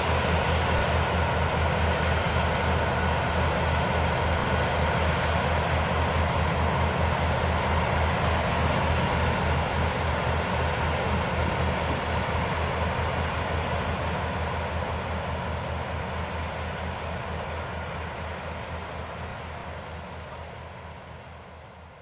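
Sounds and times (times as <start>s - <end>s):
distant combine harvesters droning: 0.0s - 22.0s.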